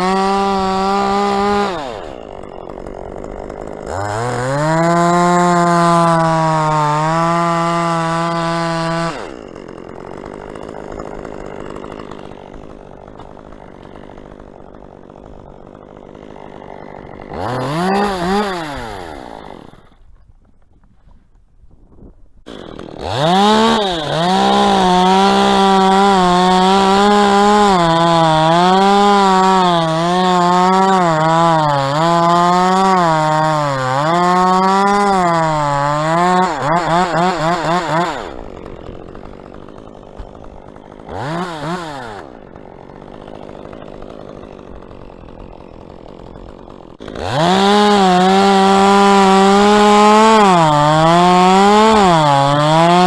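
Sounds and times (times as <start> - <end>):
chainsaw revving and cutting wood: 0.0 - 20.1, 22.4 - 53.0.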